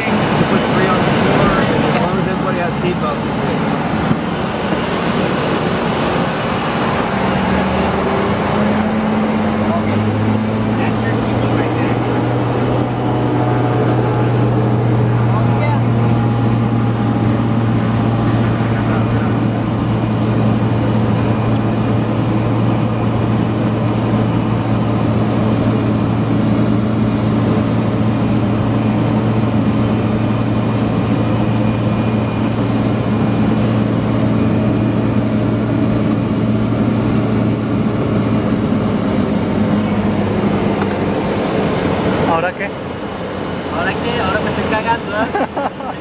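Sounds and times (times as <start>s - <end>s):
high steady whine: 0.0s - 46.0s
propeller plane engine drone: 0.0s - 46.0s.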